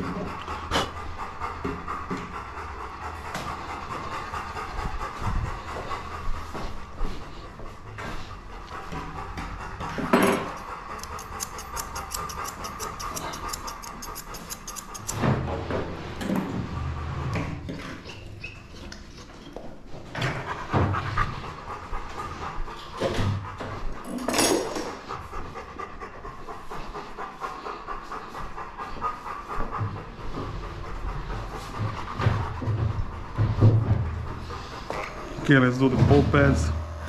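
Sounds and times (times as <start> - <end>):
dog panting rapidly: 0.0 - 36.7.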